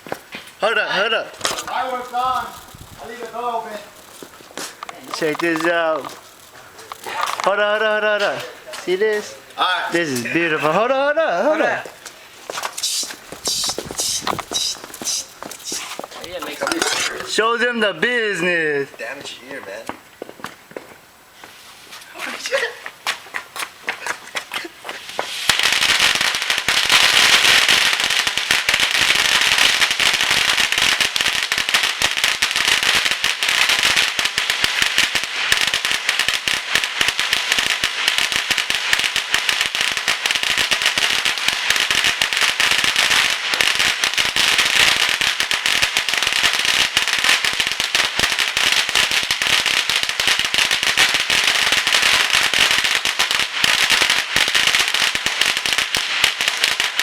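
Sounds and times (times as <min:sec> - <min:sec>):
firecrackers going off: 0:00.0 - 0:57.0.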